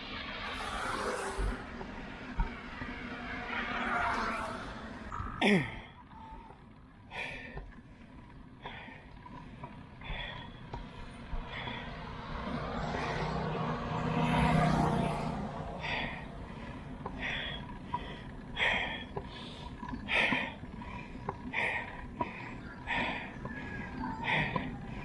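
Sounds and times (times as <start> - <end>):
motor vehicle passing: 0.0 - 5.4, 8.1 - 25.0
cyclist breathing hard: 0.0 - 25.0.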